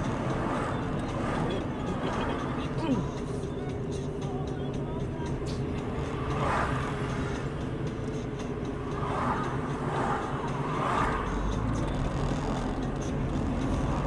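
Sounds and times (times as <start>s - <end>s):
car interior hum and rumble: 0.0s - 14.0s.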